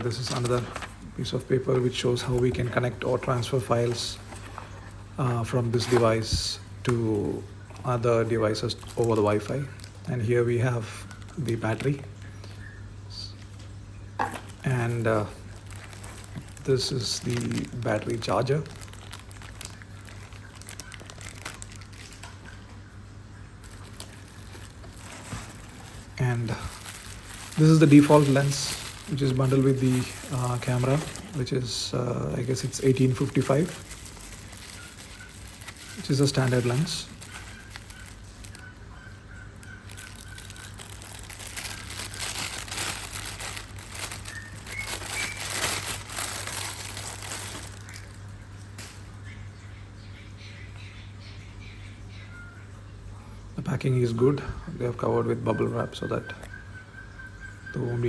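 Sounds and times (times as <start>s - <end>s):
packaging rustling and crinkling: 0.0s - 12.6s, 14.2s - 22.9s, 23.5s - 49.0s
low background hum: 0.0s - 58.0s.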